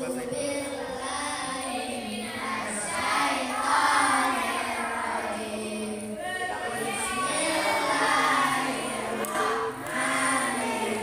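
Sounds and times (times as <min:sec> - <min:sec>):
children singing into microphones: 0:00.0 - 0:11.0.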